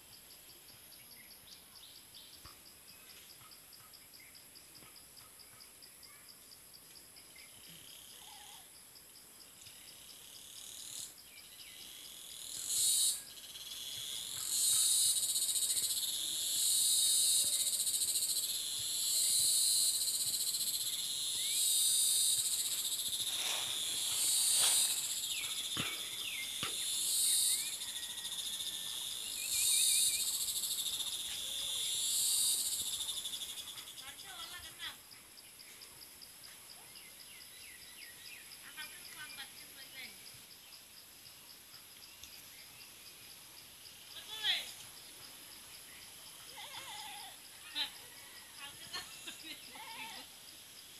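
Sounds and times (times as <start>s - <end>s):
high insect trill: 0.1s - 50.9s
insects buzzing chorus: 6.5s - 50.9s.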